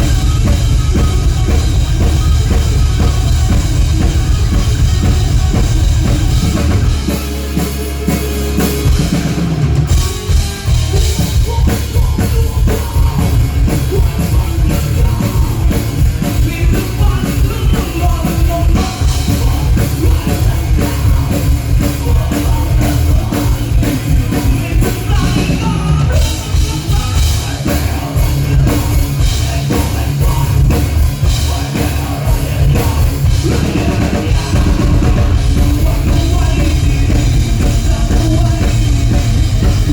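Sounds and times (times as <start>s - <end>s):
drum kit beat: 0.0s - 39.9s
person singing: 0.0s - 39.9s
rock band playing: 0.0s - 39.9s.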